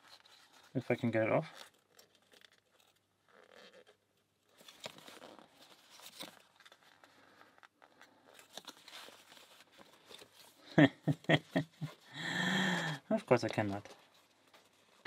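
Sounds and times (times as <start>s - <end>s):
paper rustling: 0.0s - 15.0s.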